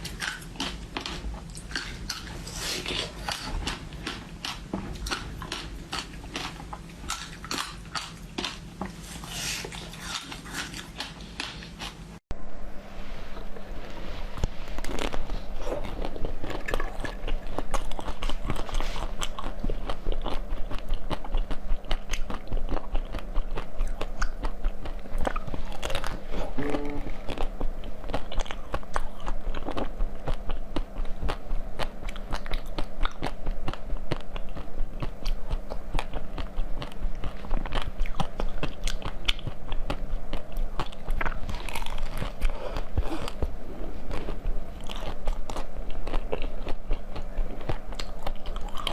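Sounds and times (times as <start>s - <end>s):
person chewing crisp food: 0.0s - 12.2s, 14.4s - 48.9s
steady low hum: 0.0s - 48.9s.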